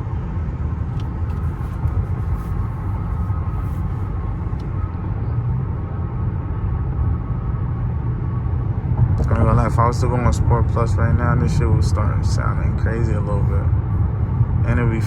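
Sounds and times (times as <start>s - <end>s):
road and engine rumble in cabin: 0.0s - 15.0s.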